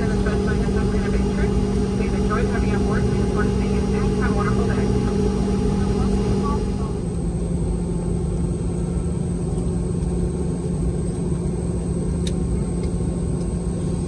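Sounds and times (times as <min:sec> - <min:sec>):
aircraft cabin rumble and hum: 0:00.0 - 0:14.0.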